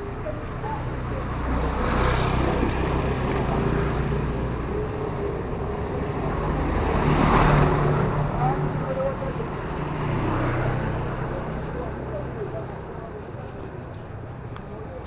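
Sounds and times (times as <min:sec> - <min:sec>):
motor scooter engines: 0:00.0 - 0:15.0.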